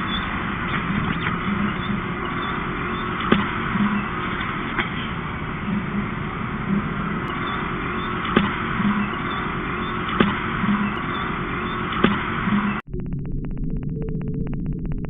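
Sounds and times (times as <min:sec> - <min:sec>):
traffic hum: 0:00.0 - 0:12.9.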